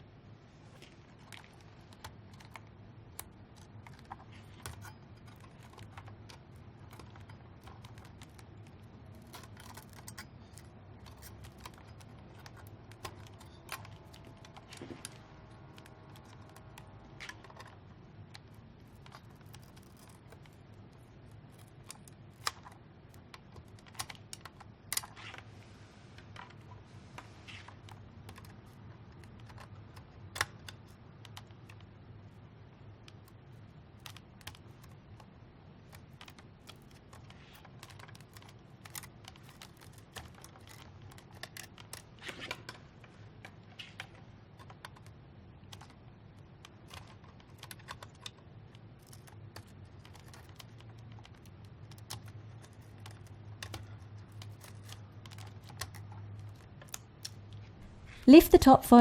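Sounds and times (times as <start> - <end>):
low steady hum: 0.0 - 59.0
clicks of plastic parts handled: 0.8 - 25.5, 26.2 - 57.8.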